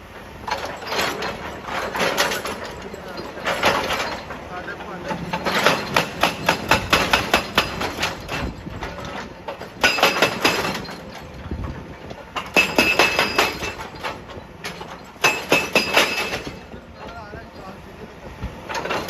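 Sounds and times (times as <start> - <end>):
hydraulic breaker hammering rock: 0.4 - 17.7, 18.6 - 19.0.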